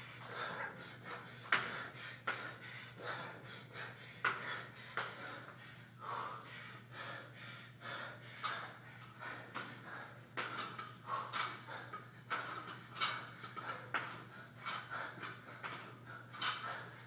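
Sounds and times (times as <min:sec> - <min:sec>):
person breathing hard and gasping: 0:00.0 - 0:17.0
steady low hum: 0:00.0 - 0:17.0.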